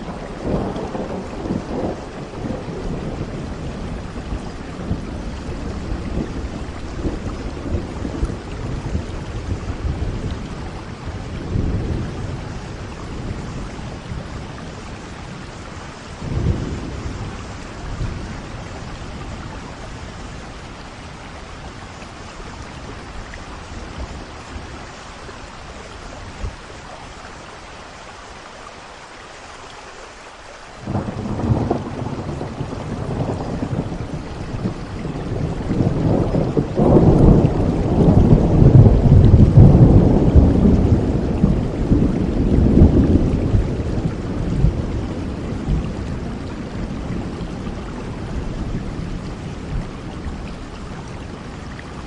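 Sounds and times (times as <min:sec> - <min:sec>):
rolling thunder rumble: 0:00.0 - 0:26.8, 0:30.8 - 0:52.0
steady rain: 0:00.0 - 0:52.0.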